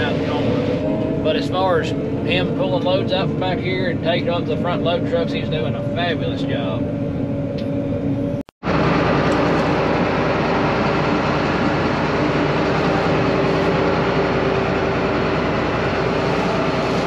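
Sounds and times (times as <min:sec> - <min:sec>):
combine engine and machinery: 0:00.0 - 0:17.0.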